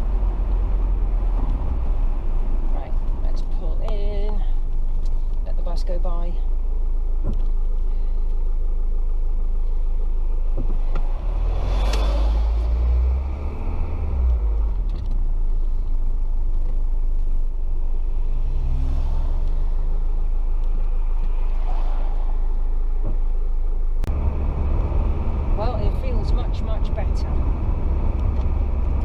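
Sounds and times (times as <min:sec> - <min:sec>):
diesel engine running: 0:00.0 - 0:18.1, 0:22.4 - 0:29.0.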